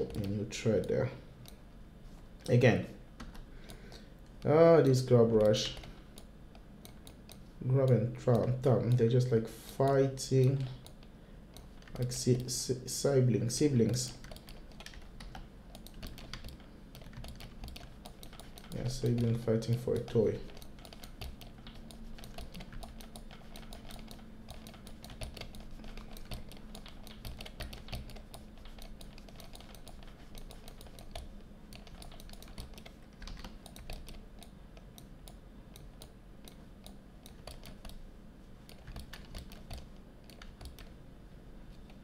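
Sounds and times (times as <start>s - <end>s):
computer keyboard typing: 0.0s - 1.6s, 3.2s - 3.8s, 4.4s - 9.1s, 9.8s - 12.5s, 13.8s - 38.0s, 38.6s - 41.0s
faint low hum: 0.0s - 42.0s.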